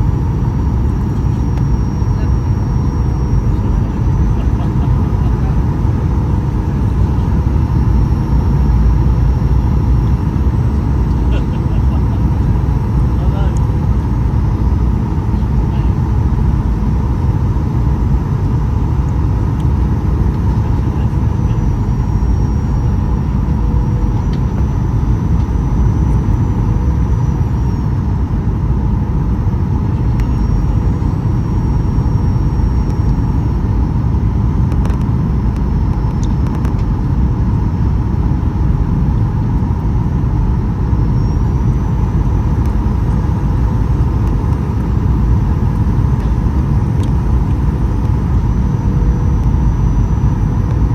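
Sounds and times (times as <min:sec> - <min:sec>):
airplane cabin engine rumble: 0:00.0 - 0:50.9
faint high whine: 0:00.0 - 0:50.9
steady hum: 0:00.0 - 0:50.9.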